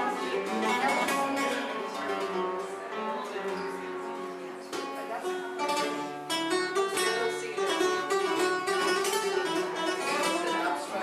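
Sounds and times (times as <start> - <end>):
flamenco guitar: 0.0 - 11.0.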